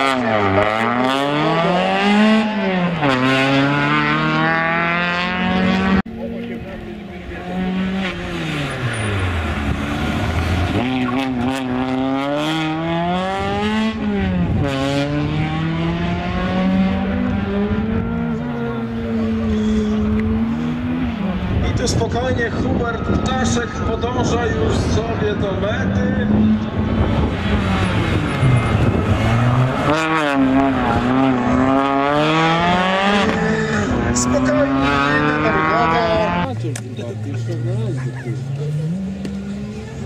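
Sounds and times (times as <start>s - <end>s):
car engine revving hard: 0.0s - 6.1s, 6.8s - 23.0s, 24.6s - 40.0s.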